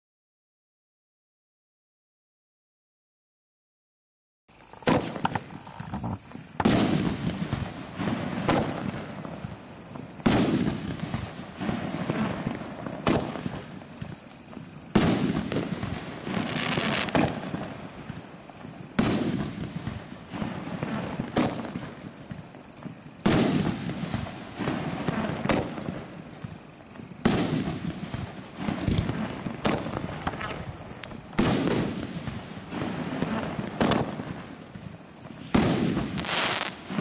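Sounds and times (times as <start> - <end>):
firework shots bursting: 4.7 - 37.0.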